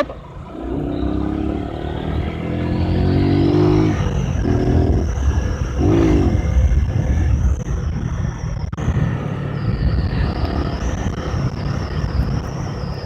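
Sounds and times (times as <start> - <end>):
motorcycle engine revving: 0.0 - 13.0
wind rumble on microphone: 0.0 - 13.0.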